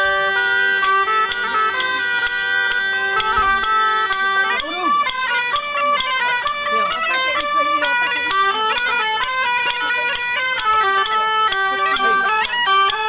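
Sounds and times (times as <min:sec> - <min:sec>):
quick melody of short notes: 0:00.0 - 0:13.0.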